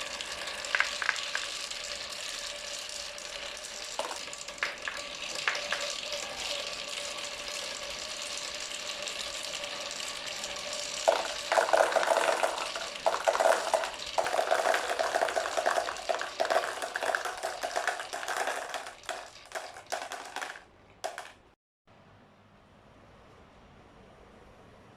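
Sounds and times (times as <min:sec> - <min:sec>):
marbles rattling through pipe: 0:00.0 - 0:21.6.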